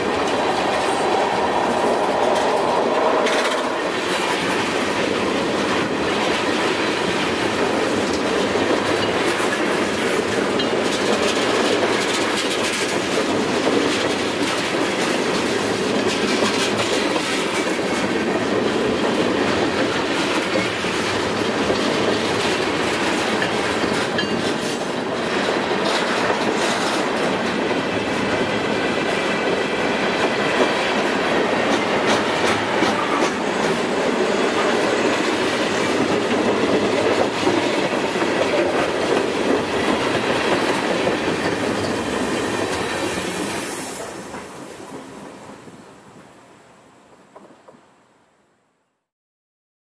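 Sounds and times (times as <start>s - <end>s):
wheels clacking over rail joints: 0.0s - 45.8s
steel wheels rumbling on rails: 0.0s - 46.2s.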